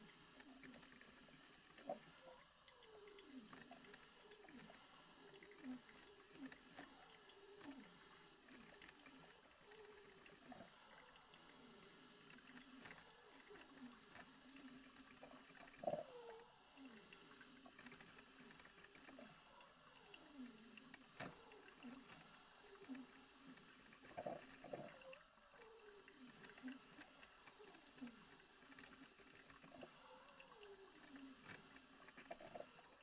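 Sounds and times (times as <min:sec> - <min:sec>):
coffee maker gurgling: 0:00.0 - 0:33.0.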